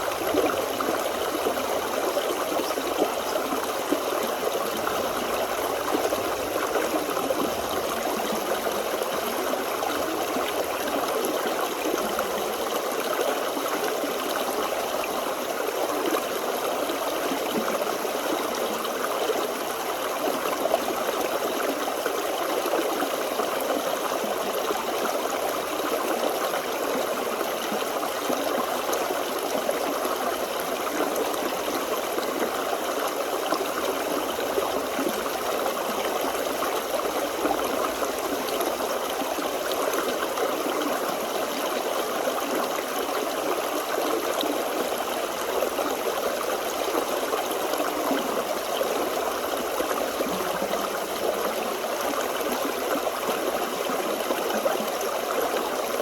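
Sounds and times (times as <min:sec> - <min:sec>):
stream flowing and trickling: 0:00.0 - 0:56.0.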